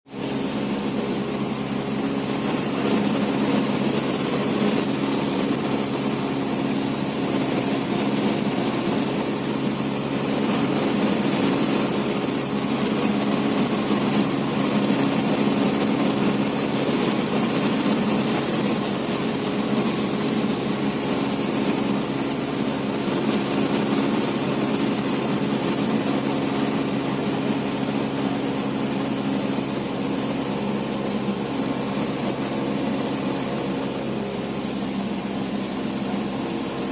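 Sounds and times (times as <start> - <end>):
propeller plane engine droning: 0.1 - 36.9.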